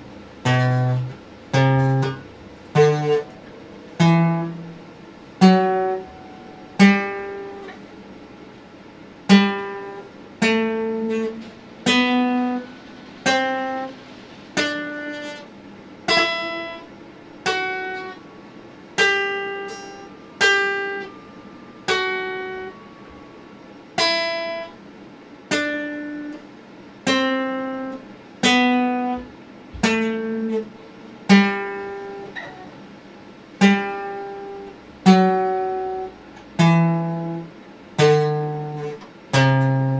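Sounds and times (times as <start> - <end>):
acoustic guitar chords: 0.0 - 39.9.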